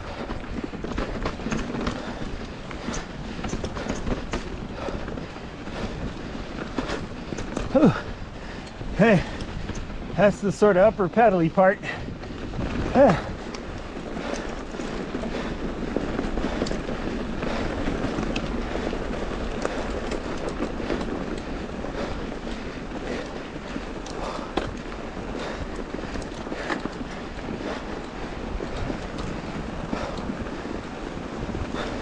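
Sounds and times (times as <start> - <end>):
bike clicks and rattles: 0.0 - 32.0
tyres crunching on gravel: 0.0 - 32.0
wind on microphone: 0.0 - 32.0.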